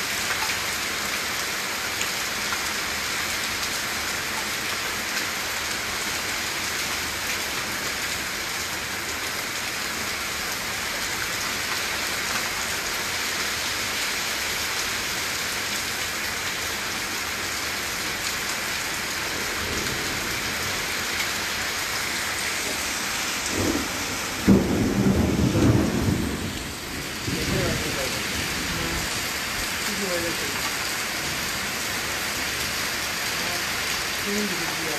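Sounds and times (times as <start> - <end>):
heavy rain on wet ground: 0.0 - 34.9.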